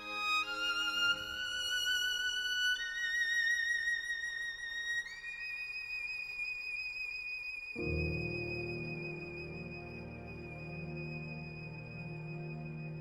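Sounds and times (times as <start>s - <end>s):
violin playing slow melody: 0.0s - 13.0s.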